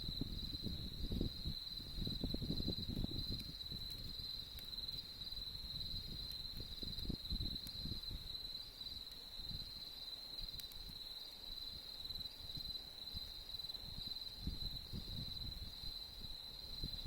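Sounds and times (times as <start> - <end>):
campfire crackling: 0.0 - 17.0
insects trilling: 0.0 - 17.0.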